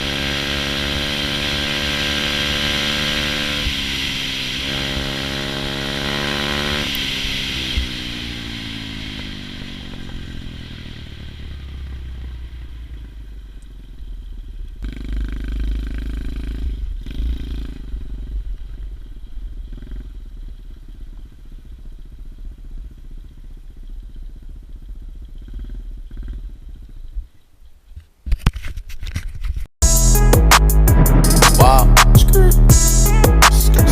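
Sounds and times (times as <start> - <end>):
motorbike engine revving: 0.0 - 13.3, 14.2 - 27.2, 29.8 - 33.9.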